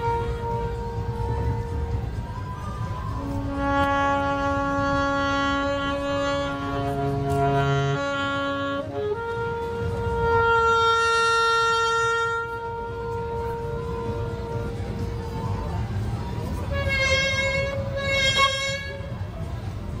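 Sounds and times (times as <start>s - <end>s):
alto saxophone improvising: 0.0s - 1.9s, 3.2s - 15.5s, 16.6s - 19.4s.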